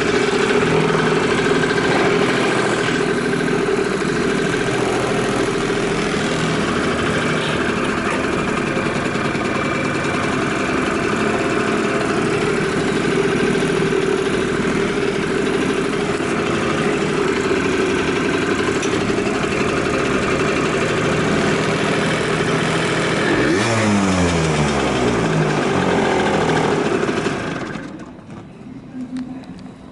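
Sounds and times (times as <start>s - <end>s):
two-stroke engine idling and revving: 0.0s - 28.4s.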